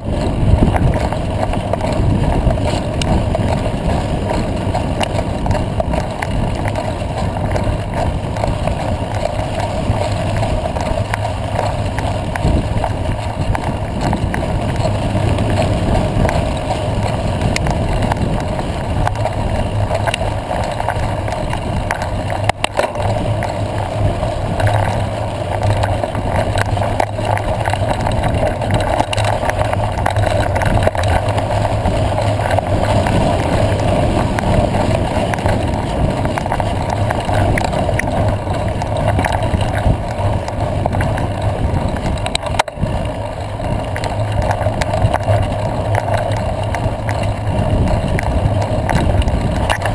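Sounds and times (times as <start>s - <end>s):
bike rattling over rough ground: 0.0s - 49.9s
wind rush on microphone: 0.0s - 49.9s.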